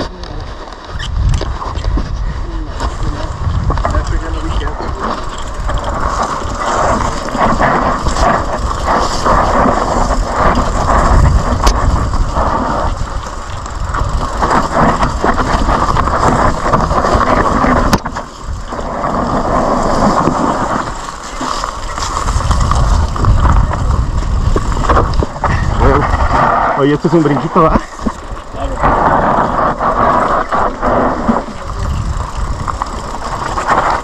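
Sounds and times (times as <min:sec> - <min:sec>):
bike rattling over bumps: 0:00.0 - 0:34.0
knobby tyres crunching over dirt: 0:00.0 - 0:34.0
wind on the microphone: 0:00.0 - 0:34.0.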